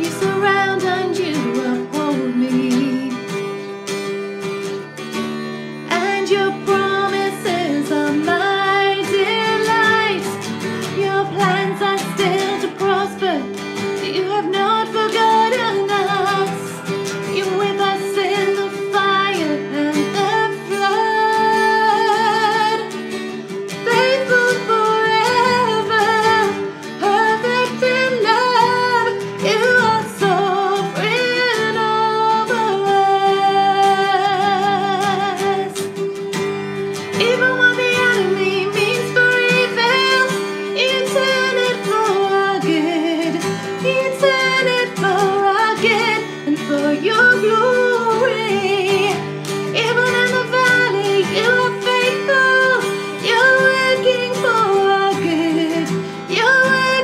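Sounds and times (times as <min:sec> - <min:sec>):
strummed acoustic guitar: 0:00.0 - 0:57.0
woman singing: 0:00.0 - 0:57.0.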